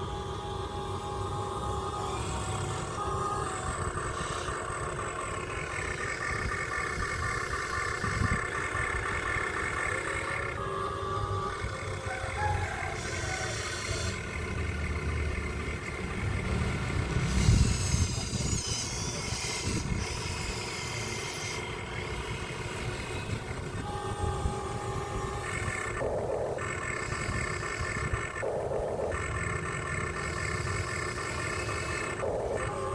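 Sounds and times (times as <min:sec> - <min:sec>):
remote-control truck rumbling: 0:00.0 - 0:32.9.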